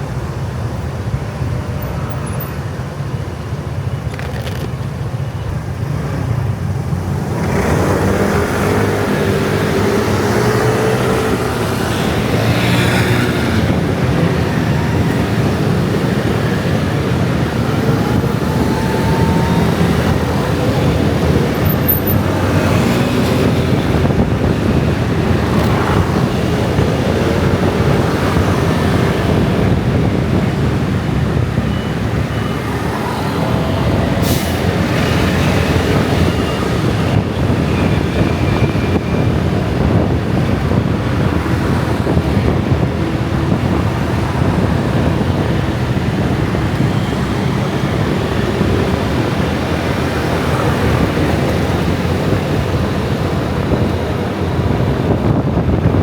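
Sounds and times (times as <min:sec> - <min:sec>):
scooter and motorbike traffic: 0:00.0 - 0:56.0.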